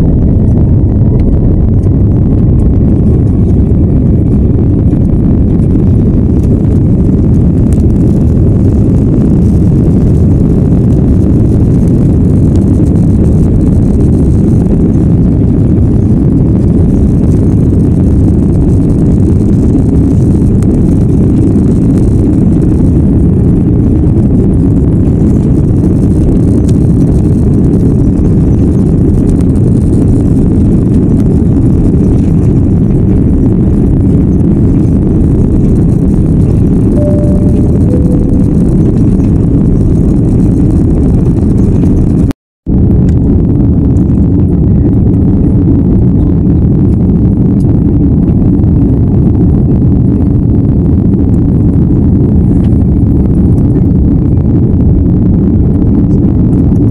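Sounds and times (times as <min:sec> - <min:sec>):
jet airliner cabin rumble: 0:00.0 - 0:56.9.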